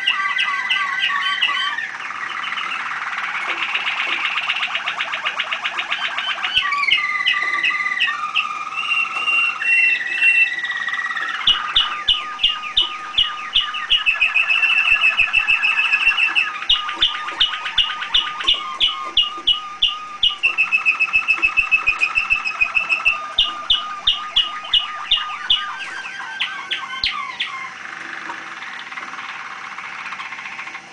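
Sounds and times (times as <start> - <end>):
canary singing trills: 0.0 - 30.9.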